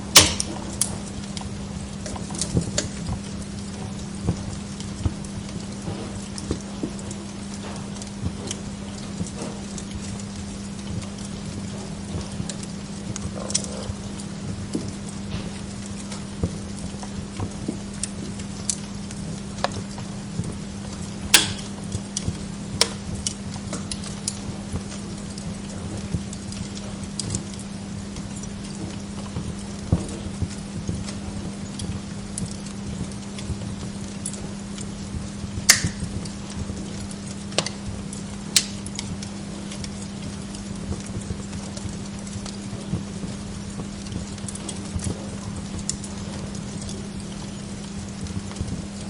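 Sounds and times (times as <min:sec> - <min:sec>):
log fire crackling and popping: 0:00.0 - 0:49.0
steady low hum: 0:00.0 - 0:49.0.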